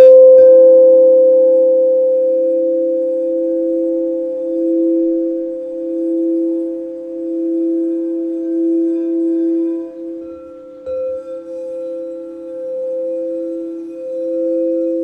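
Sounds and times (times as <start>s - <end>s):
singing bowl struck: 0.0s - 15.0s
singing bowls ringing: 0.0s - 15.0s.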